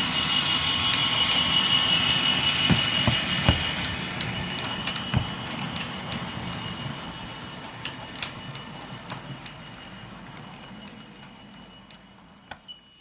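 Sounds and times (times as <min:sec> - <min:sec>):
high whine: 0:00.0 - 0:13.0
model locomotive diesel engine sound: 0:00.0 - 0:13.0
wheels clicking over rail joints: 0:00.0 - 0:13.0.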